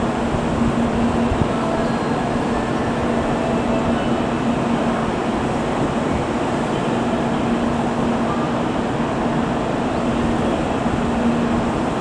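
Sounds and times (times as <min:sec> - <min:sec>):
train equipment hum and whir: 0:00.0 - 0:12.0.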